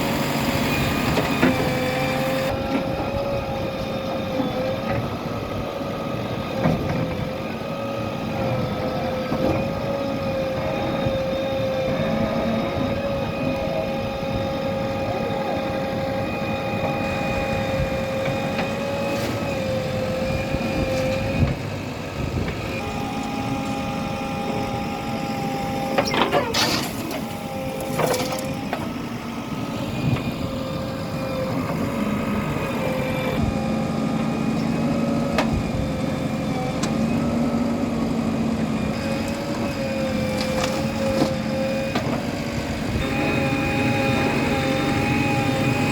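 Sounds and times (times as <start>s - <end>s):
heavy machinery engine drone: 0.0s - 45.9s.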